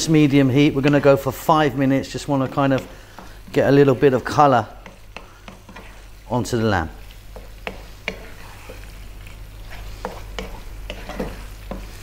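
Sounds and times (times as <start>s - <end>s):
meat sizzling in sauce: 0.0s - 12.0s
wooden spatula scraping a wok: 0.0s - 12.0s.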